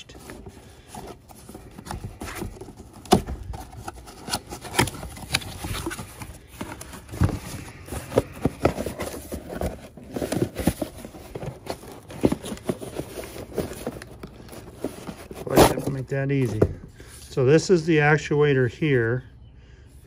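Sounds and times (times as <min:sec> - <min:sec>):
cardboard box being opened: 0:00.0 - 0:17.2
packaging rustling and clicking: 0:00.1 - 0:16.7.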